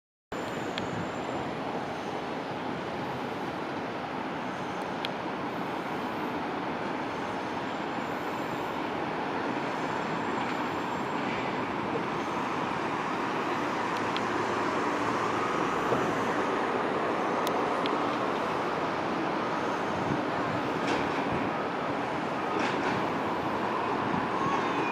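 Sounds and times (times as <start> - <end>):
faint jet whine: 0.3 - 24.9.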